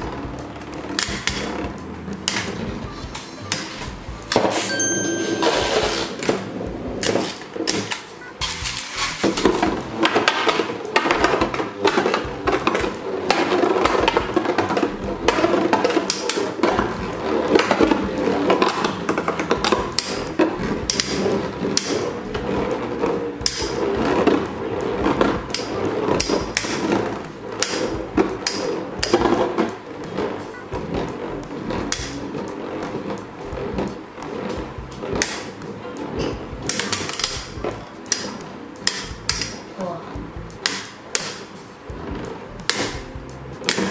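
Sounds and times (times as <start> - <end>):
spinning tops whirring: 0.0 - 39.7.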